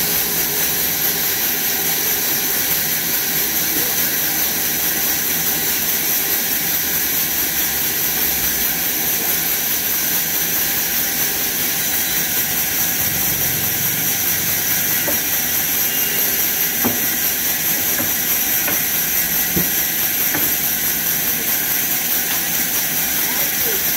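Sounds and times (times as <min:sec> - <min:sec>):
band saw cutting log: 0:00.0 - 0:23.8.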